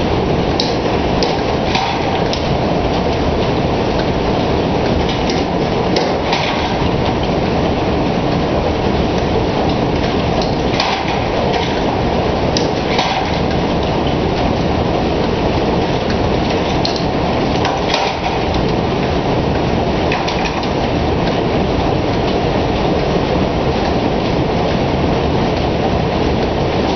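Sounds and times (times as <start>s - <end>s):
workshop equipment roaring: 0.0s - 26.9s.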